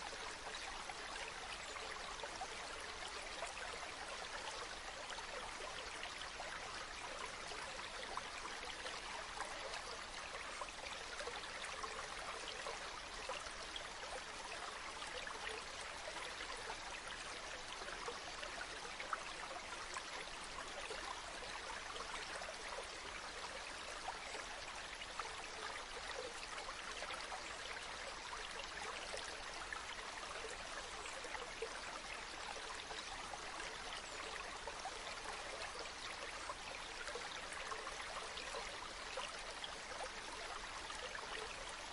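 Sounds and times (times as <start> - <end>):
stream trickling and babbling: 0.0 - 41.9.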